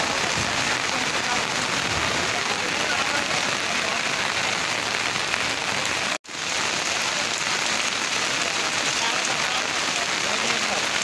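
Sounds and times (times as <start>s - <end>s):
rain falling on a wet street: 0.0s - 11.0s.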